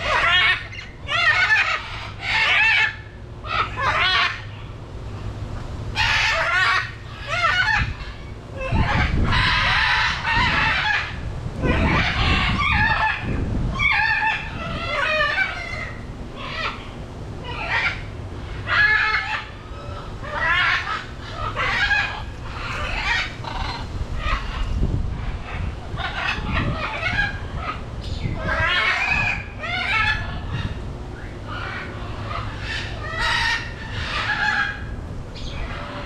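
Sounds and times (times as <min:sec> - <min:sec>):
macaws squawking: 0:00.0 - 0:04.8, 0:06.0 - 0:36.0.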